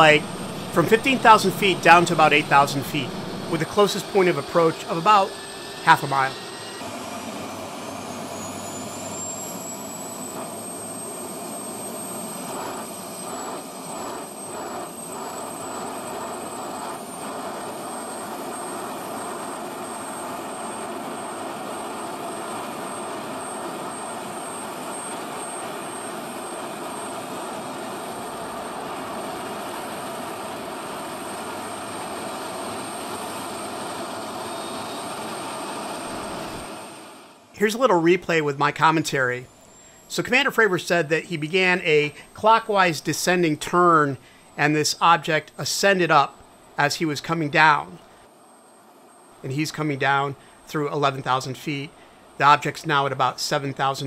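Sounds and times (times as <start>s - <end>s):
jet engine whining: 0.0s - 54.0s.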